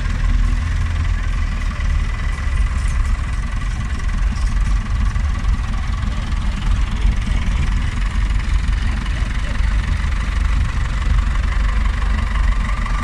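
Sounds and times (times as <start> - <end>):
tractor diesel engines running: 0.0 - 13.0.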